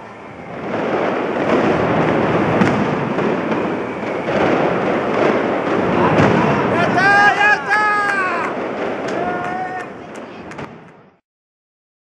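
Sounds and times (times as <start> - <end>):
firecrackers crackling: 0.0 - 11.2.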